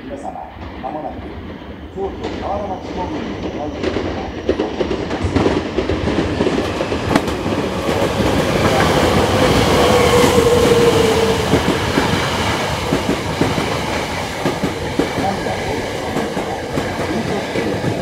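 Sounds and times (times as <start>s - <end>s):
train wheels clattering: 0.6s - 18.0s.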